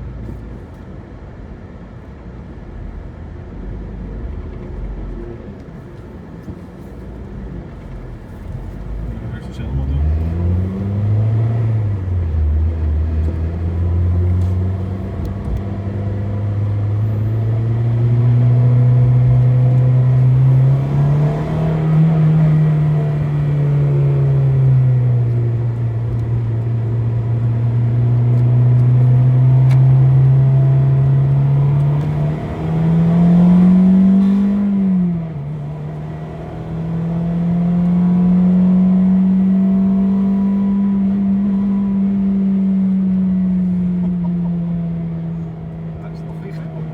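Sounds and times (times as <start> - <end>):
car engine accelerating: 3.7 - 46.9.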